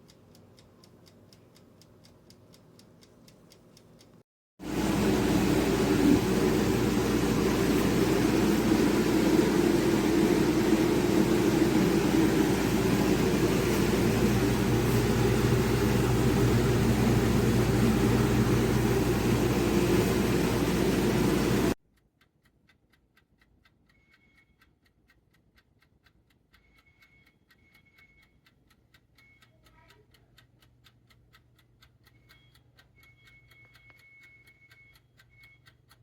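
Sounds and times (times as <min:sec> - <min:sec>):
faint mechanical ticking: 0:00.0 - 0:36.0.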